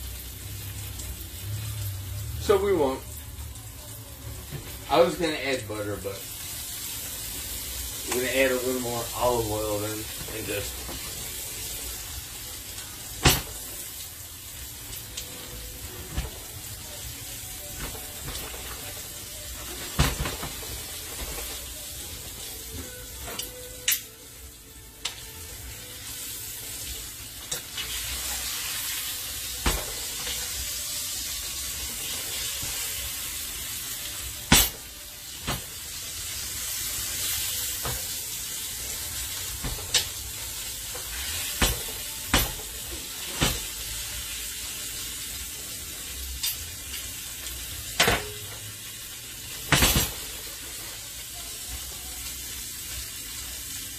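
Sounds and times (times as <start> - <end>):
steak sizzling in a pan: 0.0 - 53.9.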